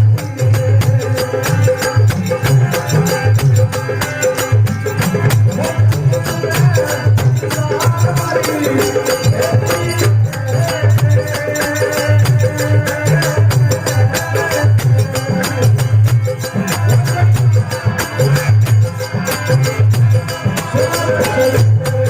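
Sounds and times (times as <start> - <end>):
folk music with hand drum: 0.0 - 22.0.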